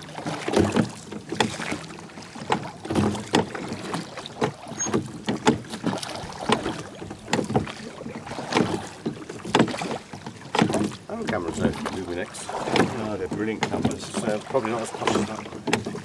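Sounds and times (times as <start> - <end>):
oar blades splashing water: 0.0 - 16.0
oars knocking in rowlocks: 0.0 - 16.0.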